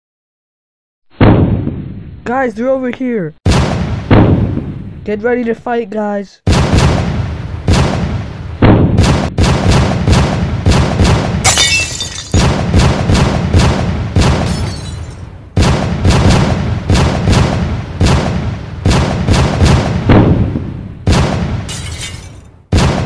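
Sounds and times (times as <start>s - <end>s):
gunshots with booming tail: 1.1s - 2.2s, 3.4s - 5.0s, 6.4s - 23.0s.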